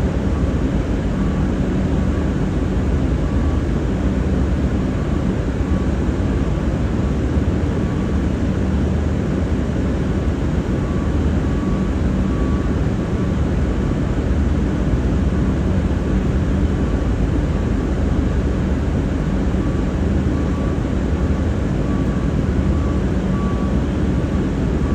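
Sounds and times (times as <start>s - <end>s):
diesel railcar engine drone: 0.0s - 24.9s.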